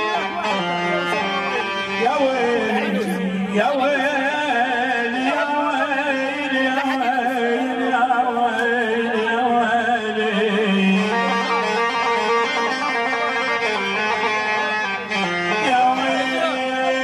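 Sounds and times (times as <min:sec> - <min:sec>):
keyboard ornamented melody: 0:00.0 - 0:17.0.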